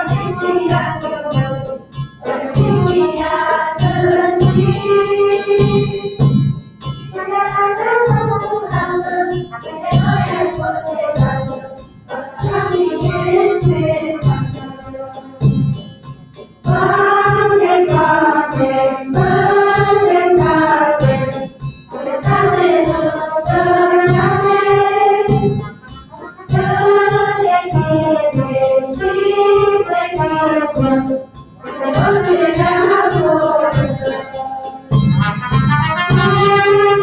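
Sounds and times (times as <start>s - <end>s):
children singing in unison: 0.0s - 6.3s, 7.2s - 15.6s, 16.6s - 37.0s.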